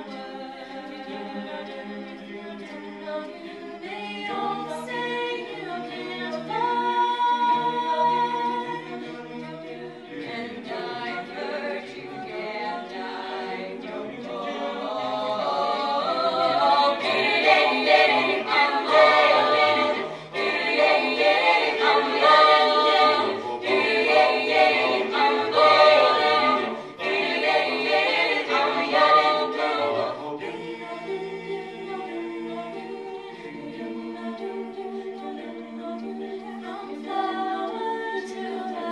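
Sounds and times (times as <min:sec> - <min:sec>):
a cappella choir singing: 0:00.0 - 0:38.9.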